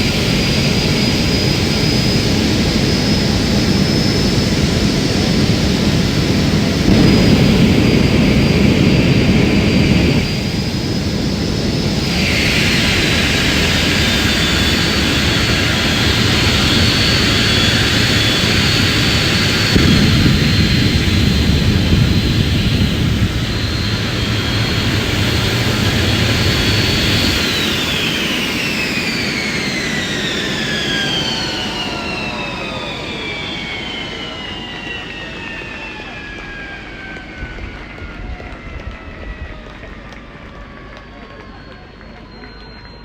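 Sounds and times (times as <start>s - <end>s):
jet engine whining and rumbling: 0.0s - 43.0s.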